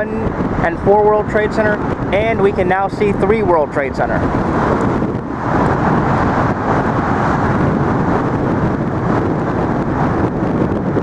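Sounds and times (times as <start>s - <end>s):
traffic rushing on bridge: 0.0s - 11.0s
wind buffeting microphone: 0.0s - 11.0s.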